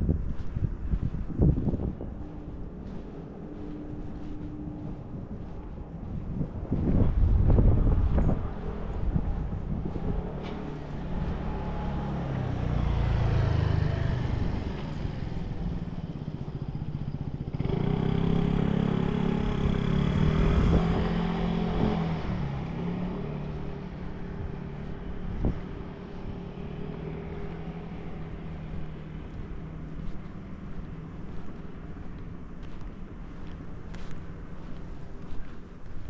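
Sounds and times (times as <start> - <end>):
vehicle engines passing: 0.0 - 36.0.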